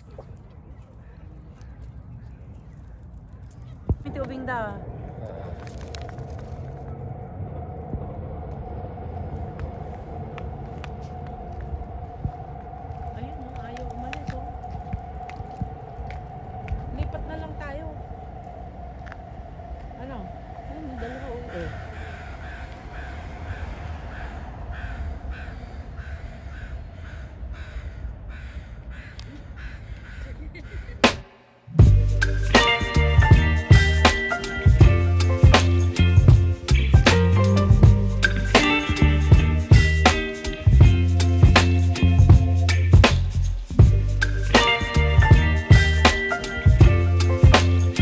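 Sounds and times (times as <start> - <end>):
motor vehicle engine rumble: 0.0 - 31.1, 31.8 - 48.0.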